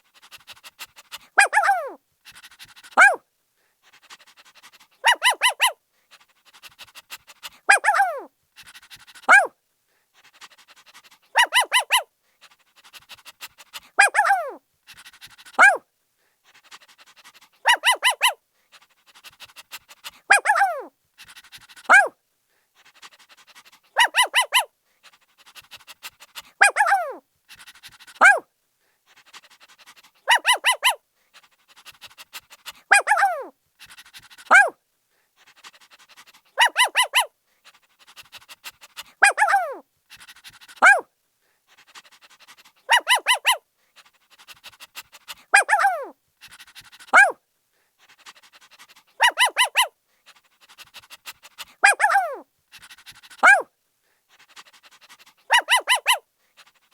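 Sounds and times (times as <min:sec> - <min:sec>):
puppy yapping and yelping: 0:00.2 - 0:03.2, 0:04.0 - 0:05.8, 0:06.5 - 0:09.6, 0:10.4 - 0:12.1, 0:12.8 - 0:15.8, 0:16.7 - 0:18.4, 0:19.2 - 0:22.2, 0:22.8 - 0:28.5, 0:29.1 - 0:34.8, 0:35.4 - 0:41.1, 0:41.7 - 0:43.6, 0:44.3 - 0:47.4, 0:48.2 - 0:53.7, 0:54.3 - 0:56.9.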